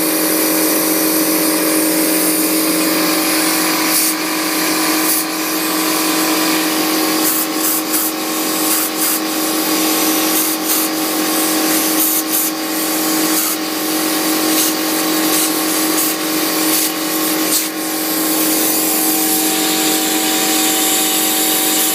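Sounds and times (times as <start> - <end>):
air compressor humming: 0.0 - 21.9
compressed air hissing from nozzle: 0.3 - 21.9.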